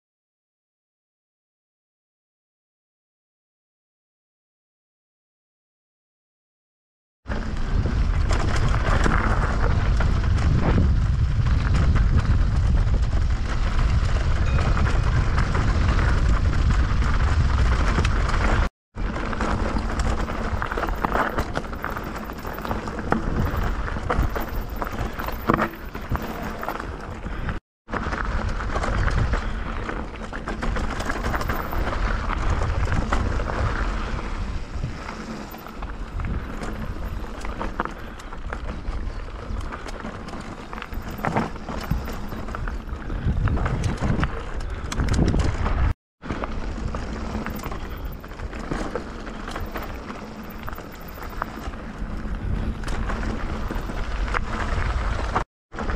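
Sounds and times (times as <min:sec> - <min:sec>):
bike rattling and stones knocking: 0:07.3 - 0:55.9
tyres crunching over gravel: 0:07.3 - 0:55.9
wind buffeting microphone: 0:07.4 - 0:55.9.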